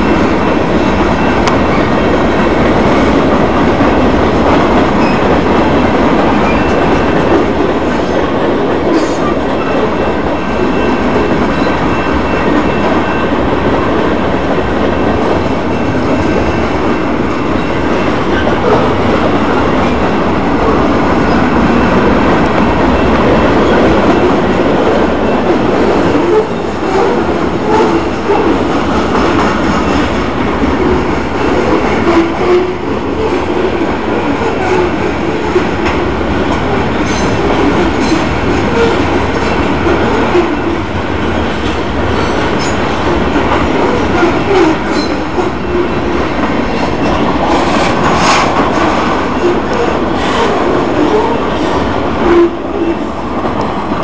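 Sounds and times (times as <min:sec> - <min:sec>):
train wheels rumbling and rattling: 0:00.0 - 0:54.0.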